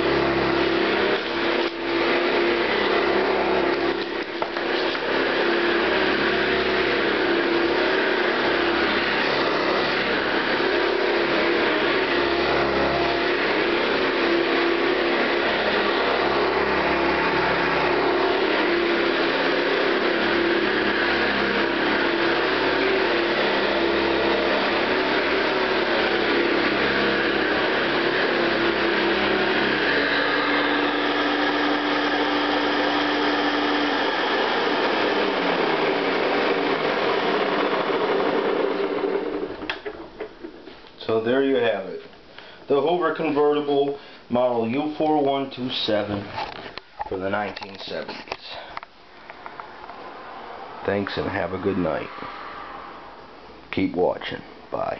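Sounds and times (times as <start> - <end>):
vacuum cleaner running: 0.0 - 42.0, 48.4 - 53.6.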